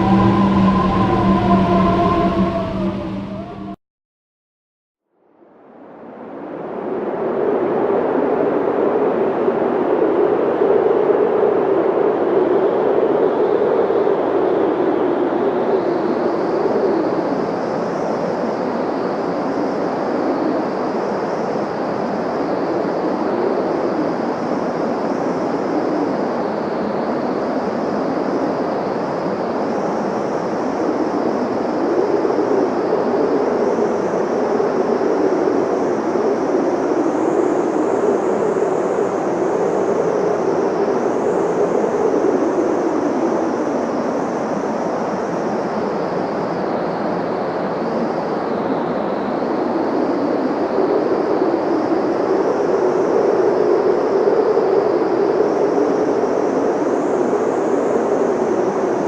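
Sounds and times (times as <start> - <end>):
blizzard wind howling: 0.0 - 3.8, 5.6 - 59.0.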